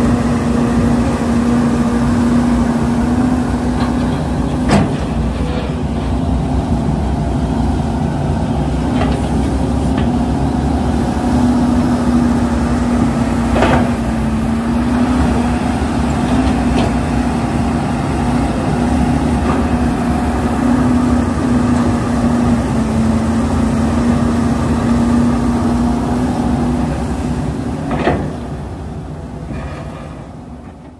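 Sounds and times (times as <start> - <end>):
heavy diesel engines droning: 0.0 - 30.9.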